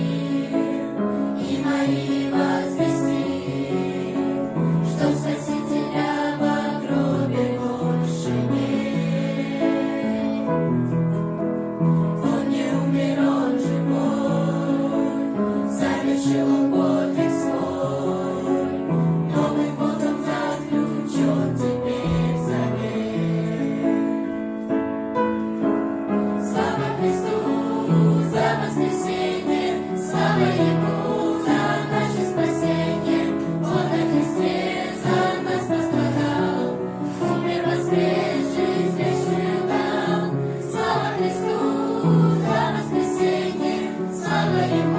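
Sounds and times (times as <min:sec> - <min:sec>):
choir singing: 0:00.0 - 0:24.6, 0:26.1 - 0:44.9.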